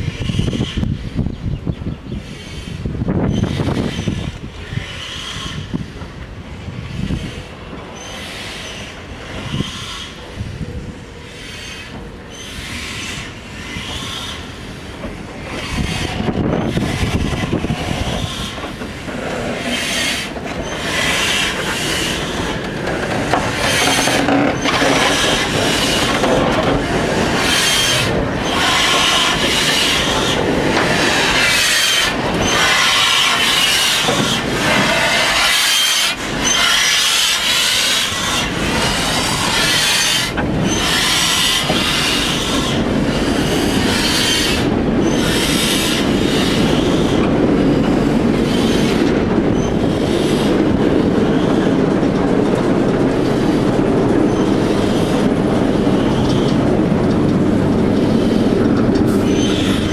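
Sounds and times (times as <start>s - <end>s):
steel wheels squealing on rails: 0.0s - 59.9s
locomotives rolling past: 2.9s - 59.9s.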